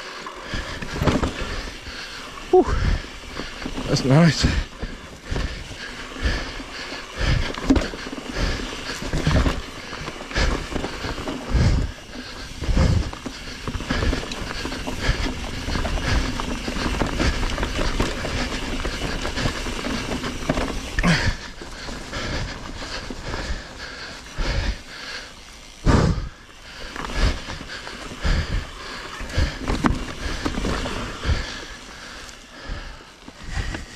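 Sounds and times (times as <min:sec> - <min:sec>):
bike tyres rolling over dirt: 0:00.0 - 0:33.9
bike thuds and rattles: 0:00.4 - 0:33.9.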